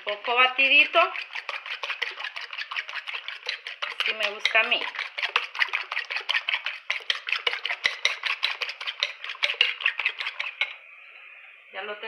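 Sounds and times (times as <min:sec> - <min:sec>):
whisk clicking against ceramic bowl: 0:00.0 - 0:10.8.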